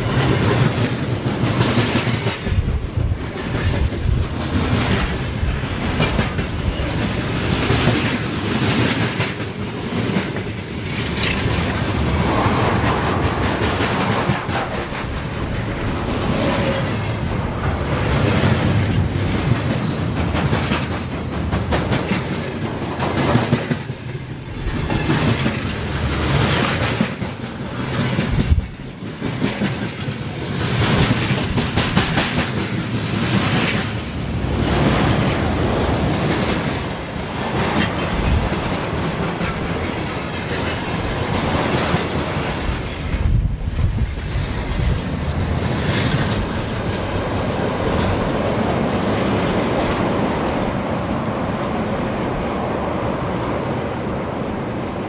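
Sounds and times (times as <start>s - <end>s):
train wheels clacking over rail joints: 0.0s - 51.0s.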